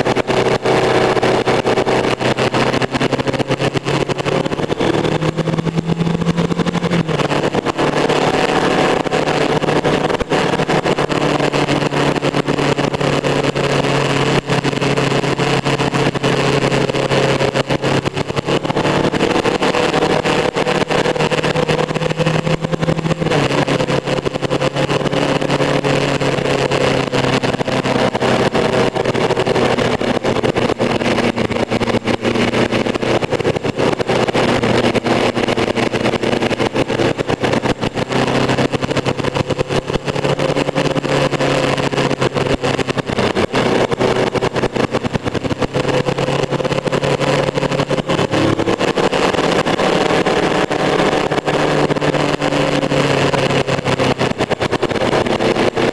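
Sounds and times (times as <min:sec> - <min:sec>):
motorcycle engine: 0:00.0 - 0:55.9
wind and road noise: 0:00.0 - 0:55.9.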